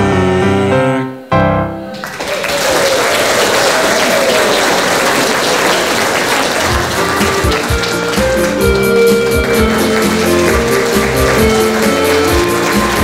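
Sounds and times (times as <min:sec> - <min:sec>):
audience applauding: 0:01.9 - 0:13.0.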